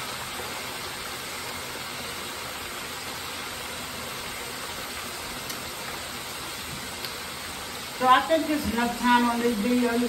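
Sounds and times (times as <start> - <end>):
oil sizzling in deep fryer: 0.0 - 10.0.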